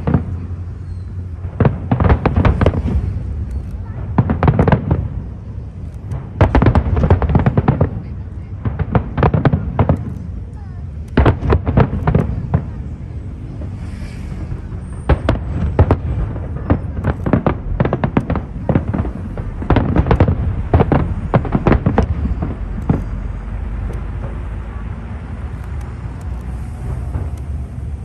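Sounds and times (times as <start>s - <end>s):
fireworks bangs: 0.0s - 28.0s
low rumble: 0.0s - 28.0s.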